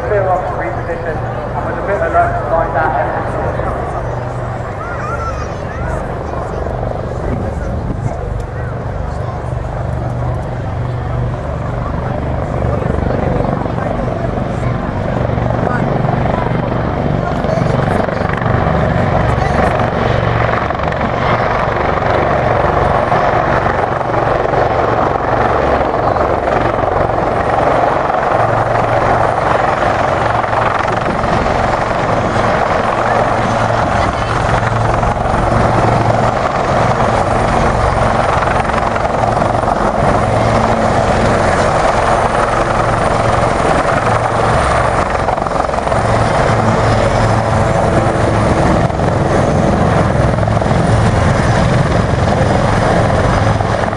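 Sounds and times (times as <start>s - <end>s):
helicopter rotor and engine noise: 0.0s - 53.9s.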